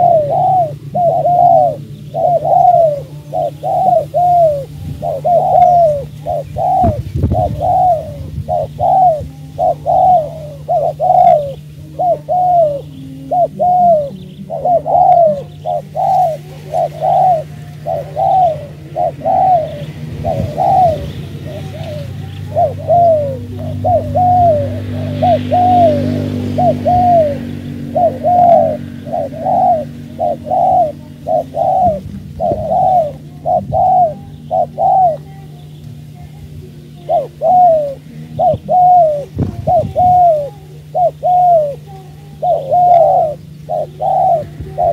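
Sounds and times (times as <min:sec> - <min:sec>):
doves cooing: 0:00.0 - 0:44.9
steady low hum: 0:00.0 - 0:44.9.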